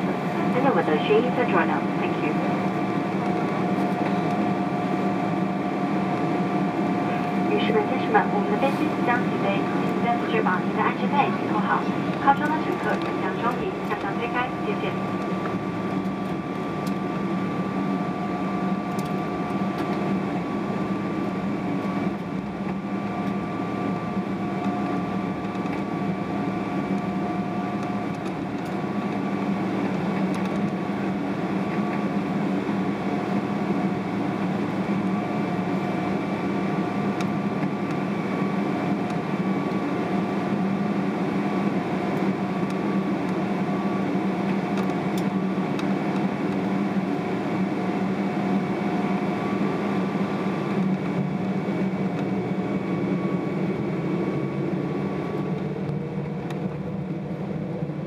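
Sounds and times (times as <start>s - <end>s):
aircraft cabin engine hum: 0.0s - 58.0s
constant whine tones: 0.0s - 58.0s.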